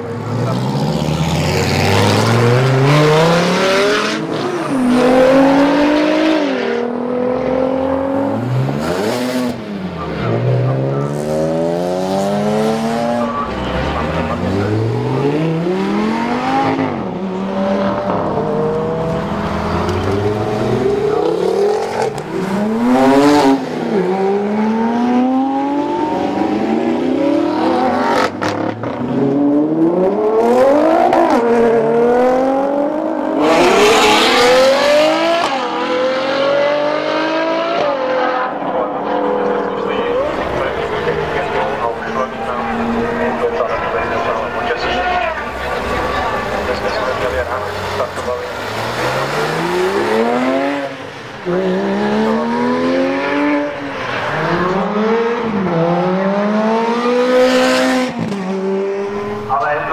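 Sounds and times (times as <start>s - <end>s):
sports cars accelerating past: 0.0s - 59.9s.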